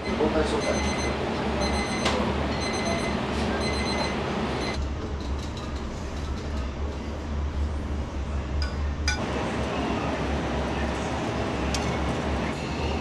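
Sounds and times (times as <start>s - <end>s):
kitchen hum and rush: 0.0s - 13.0s.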